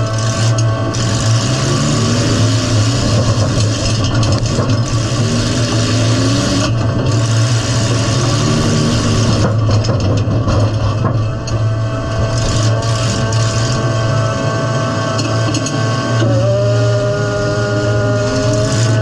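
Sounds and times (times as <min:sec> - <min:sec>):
car engine running hard: 0:00.0 - 0:19.0.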